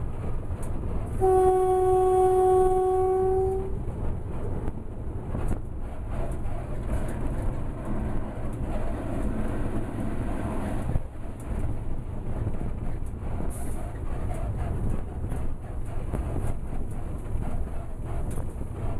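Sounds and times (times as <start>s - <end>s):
locomotive wheels rumbling: 0.0s - 18.9s.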